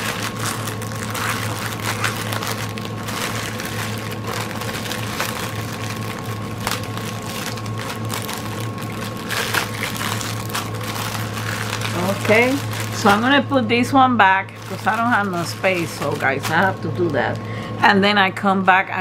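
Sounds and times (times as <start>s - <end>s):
plastic bags crinkling: 0.0s - 17.7s
steady low hum: 0.0s - 19.0s.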